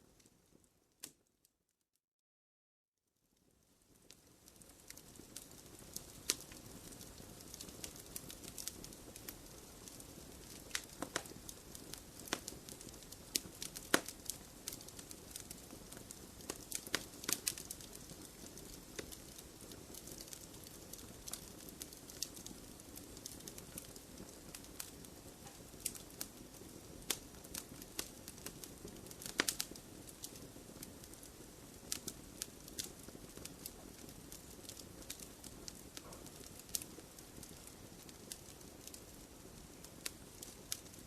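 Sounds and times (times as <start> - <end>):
wood fire crackling: 3.4 - 41.0.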